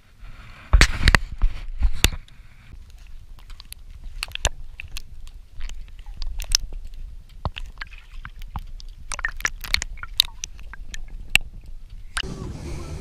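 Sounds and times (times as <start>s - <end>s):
underwater clicks and crackles: 0.4s - 12.2s.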